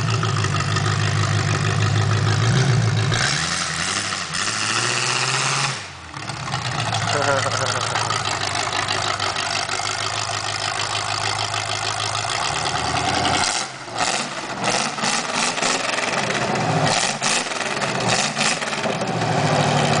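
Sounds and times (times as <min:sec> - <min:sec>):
car engine idling with cracks: 0:00.0 - 0:03.2, 0:06.1 - 0:20.0.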